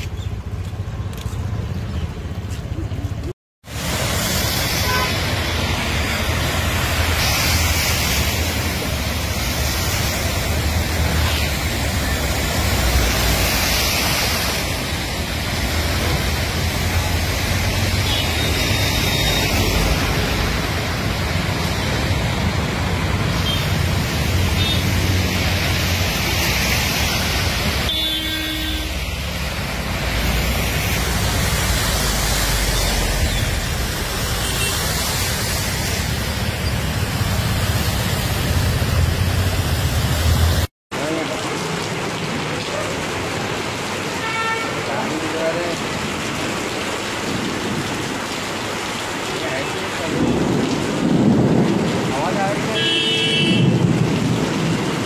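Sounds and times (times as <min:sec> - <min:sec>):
tyres rushing through water: 0:00.0 - 0:55.0.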